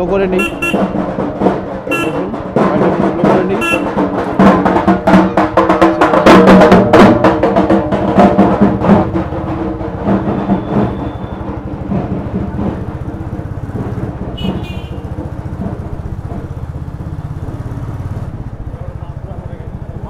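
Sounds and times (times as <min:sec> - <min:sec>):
rapid procession drumming: 0:00.0 - 0:20.0.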